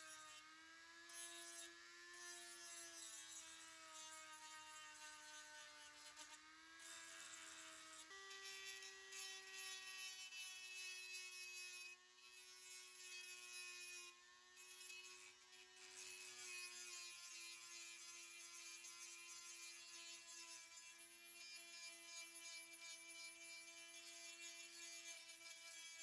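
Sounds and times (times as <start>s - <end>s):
rotary tool sanding plastic: 0.0s - 26.0s.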